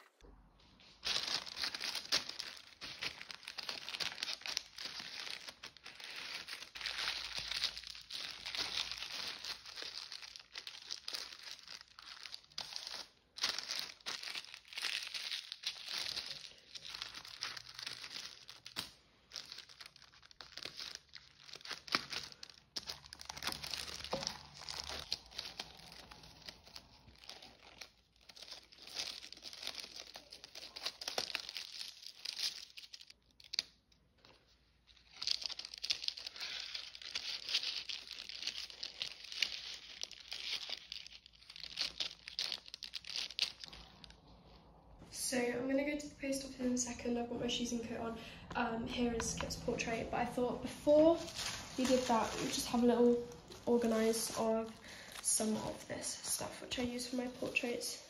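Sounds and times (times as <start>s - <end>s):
tissue paper crinkling: 0.8s - 44.6s, 49.1s - 58.0s.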